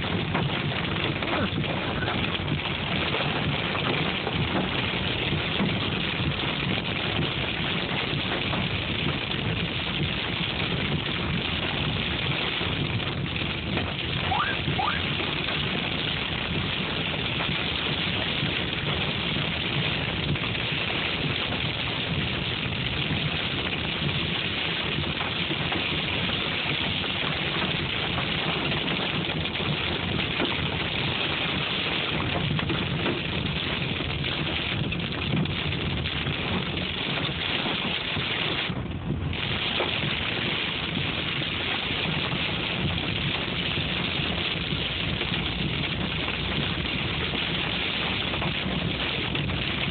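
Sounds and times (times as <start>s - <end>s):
hail and rain on car roof: 0.0s - 49.9s.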